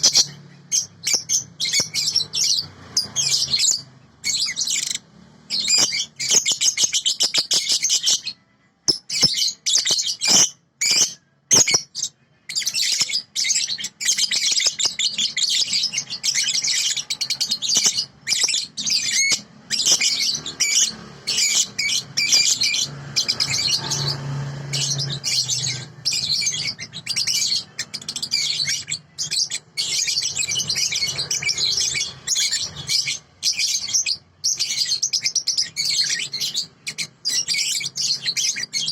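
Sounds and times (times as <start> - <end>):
lovebird chirping: 0.0 - 38.9.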